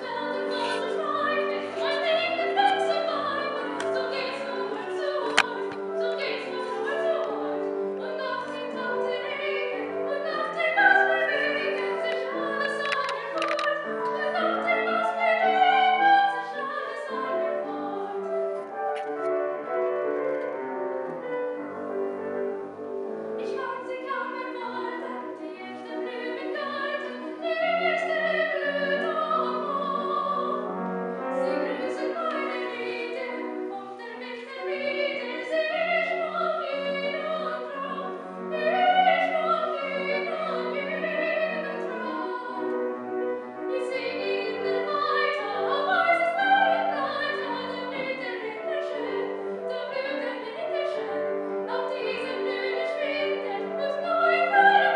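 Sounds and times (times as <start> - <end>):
piano accompaniment: 0.0 - 54.9
soprano singing: 0.0 - 54.9.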